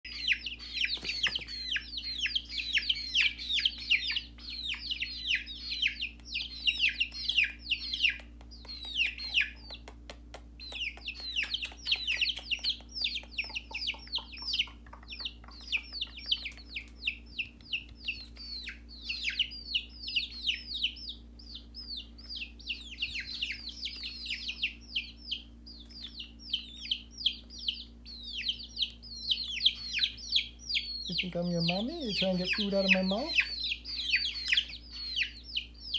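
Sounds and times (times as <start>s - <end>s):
chicks peeping: 0.0s - 35.9s
steady low hum: 0.1s - 35.9s.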